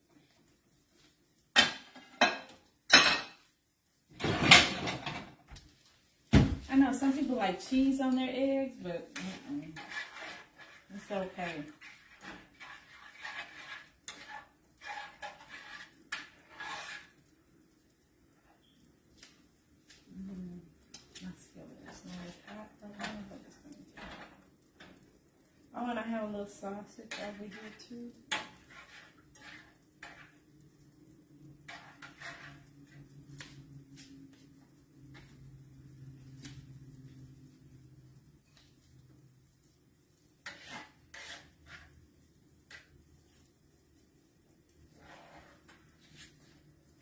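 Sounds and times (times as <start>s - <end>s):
utensil scraping eggs in skillet: 0.2s - 4.9s, 6.7s - 20.2s, 20.8s - 47.0s.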